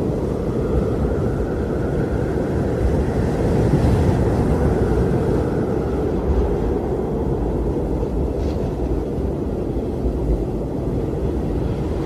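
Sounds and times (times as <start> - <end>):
strong wind blowing: 0.0 - 12.0.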